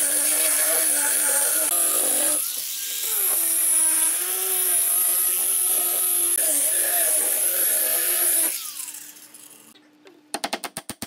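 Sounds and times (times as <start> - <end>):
angle grinder sanding wood: 0.0 - 9.8.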